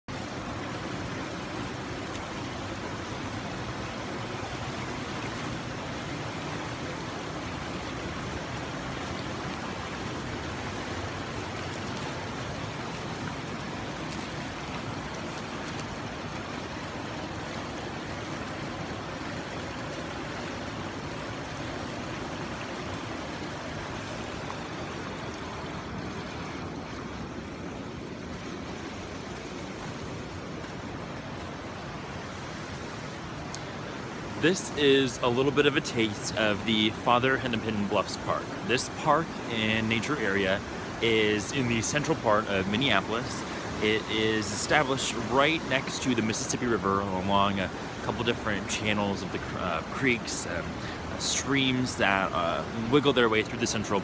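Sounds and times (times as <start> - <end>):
creek water rushing over rocks: 0.1 - 54.0.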